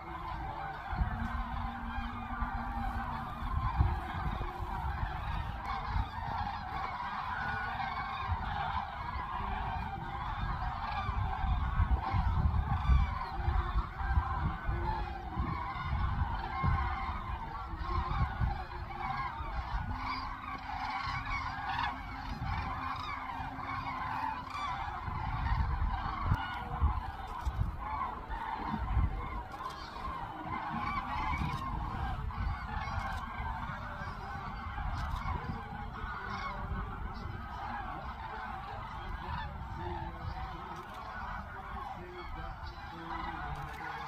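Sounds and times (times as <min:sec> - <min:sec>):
cranes trumpeting calls: 0:00.0 - 0:44.0.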